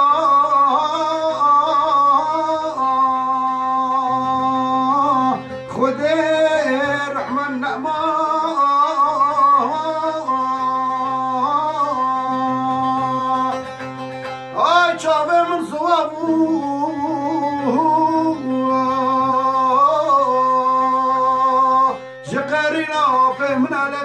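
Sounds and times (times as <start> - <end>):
long-necked lute playing: 0.0 - 24.0
man singing long held notes: 0.0 - 24.0.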